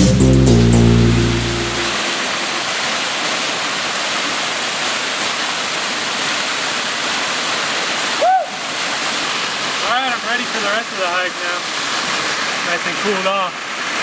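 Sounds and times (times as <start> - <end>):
waterfall roaring: 1.3 - 14.0.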